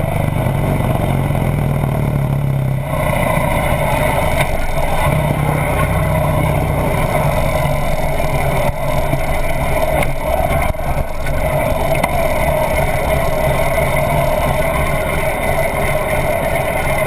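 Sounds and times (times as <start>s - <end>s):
motorcycle engine low throb: 0.0s - 17.0s.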